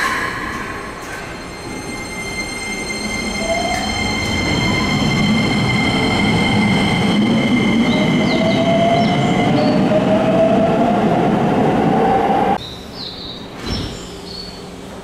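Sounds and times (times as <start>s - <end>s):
steady high inverter tones: 0.0s - 12.6s.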